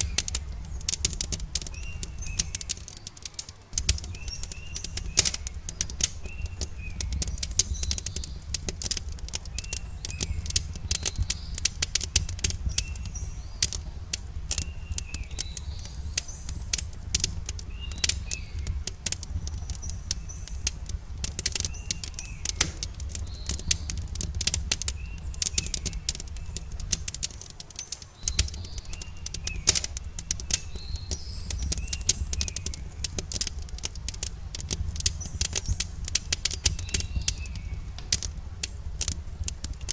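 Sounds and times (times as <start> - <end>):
bird chirping: 0.0 - 13.9, 14.5 - 33.6, 35.0 - 38.3
campfire crackling and popping: 0.0 - 39.9
low rumble of burning wood: 0.0 - 39.9.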